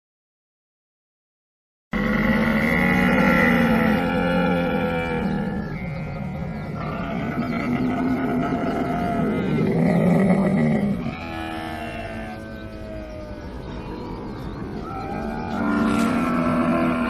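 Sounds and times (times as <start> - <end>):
camel calling: 2.0 - 17.0.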